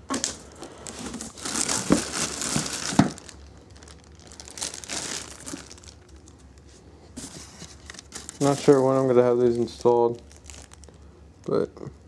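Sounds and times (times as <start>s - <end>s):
packaging crumpling by hand: 0.2s - 6.7s, 7.6s - 11.1s.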